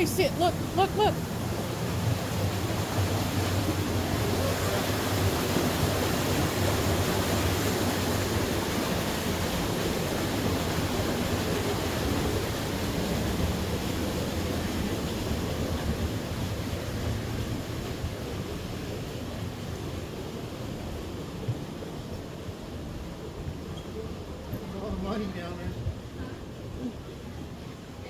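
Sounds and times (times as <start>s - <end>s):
stream rushing: 0.0s - 28.0s.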